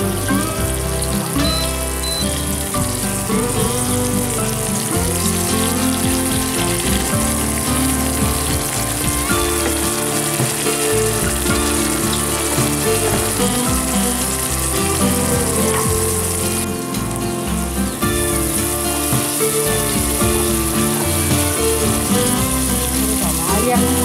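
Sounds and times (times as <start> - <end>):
background music: 0.0 - 24.0
onions sizzling in hot oil: 0.0 - 24.0.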